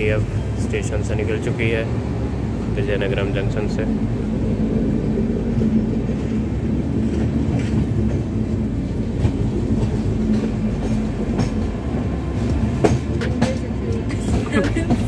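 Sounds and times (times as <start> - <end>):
train coaches rumbling: 0.0 - 15.0
wheels clacking over rails: 0.0 - 15.0.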